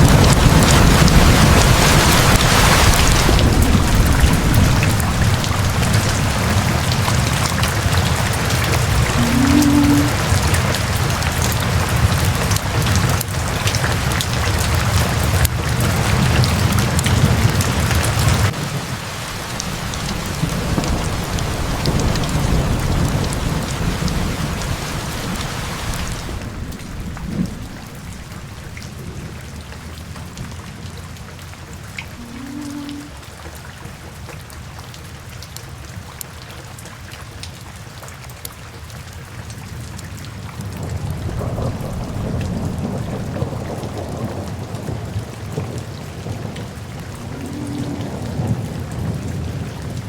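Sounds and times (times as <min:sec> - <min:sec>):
low rumble of thunder: 0:00.0 - 0:33.2, 0:40.4 - 0:50.0
steady rain: 0:00.0 - 0:50.0.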